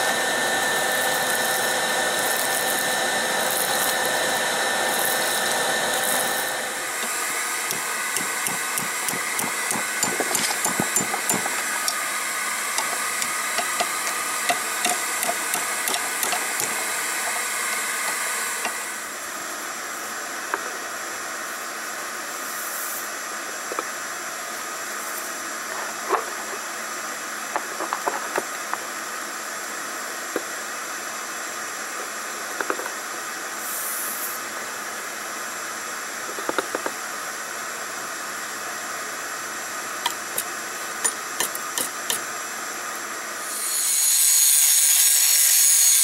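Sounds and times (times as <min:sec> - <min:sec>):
forge blower rushing with whine: 0:00.0 - 0:46.0.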